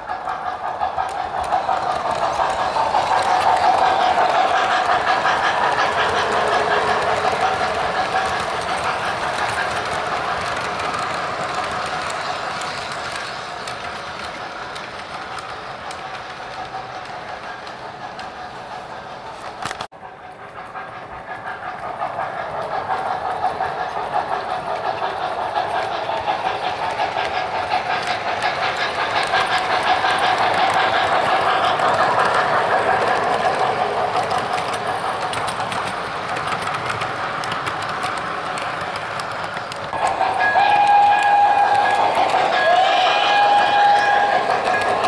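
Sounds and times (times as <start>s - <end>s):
model train hum: 0.0s - 45.0s
wheels rattling on rail: 0.0s - 45.0s.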